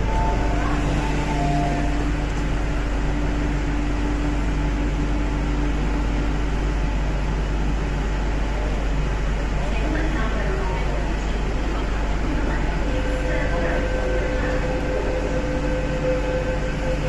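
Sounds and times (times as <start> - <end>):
steady low hum: 0.0 - 17.0
train and ventilation noise: 0.0 - 17.0.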